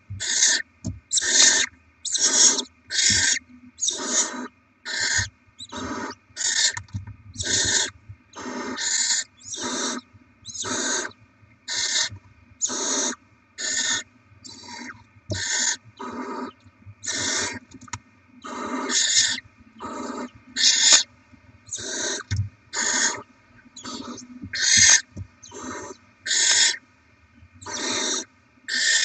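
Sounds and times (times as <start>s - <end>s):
owl chicks rasping hisses: 0.2s - 6.8s, 7.4s - 17.6s, 18.4s - 21.1s, 21.7s - 23.2s, 23.8s - 26.8s, 27.6s - 29.0s.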